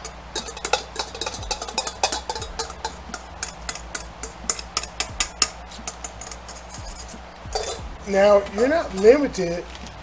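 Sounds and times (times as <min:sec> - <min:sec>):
whisk scraping metal bowl: 0:00.0 - 0:09.7.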